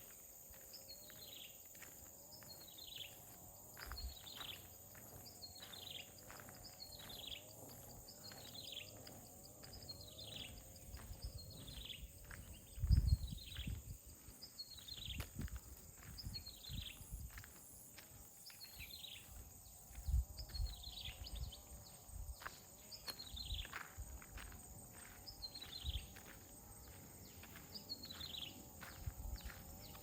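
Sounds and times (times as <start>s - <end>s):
footsteps on a path: 0.0s - 30.0s.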